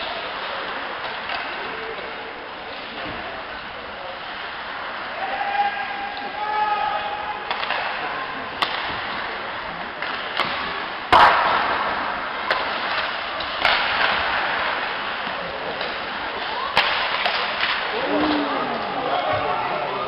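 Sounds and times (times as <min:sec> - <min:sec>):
crowd and arena hum: 0:00.0 - 0:20.0
hockey sticks and puck clacking: 0:00.0 - 0:20.0.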